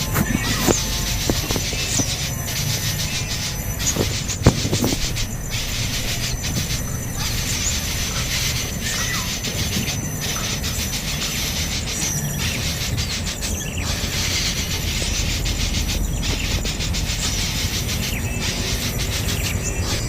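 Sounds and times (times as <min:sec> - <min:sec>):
insect chorus buzzing: 0:00.0 - 0:20.0
low rumble: 0:00.0 - 0:20.0.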